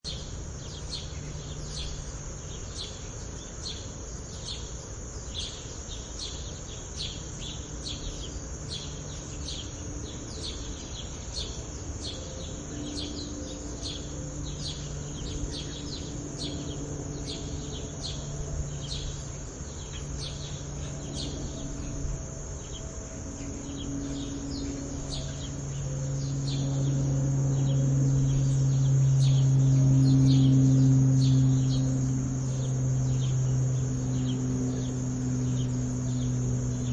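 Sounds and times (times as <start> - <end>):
plane droning: 0.0 - 36.9
sparrows chirping: 0.0 - 36.9.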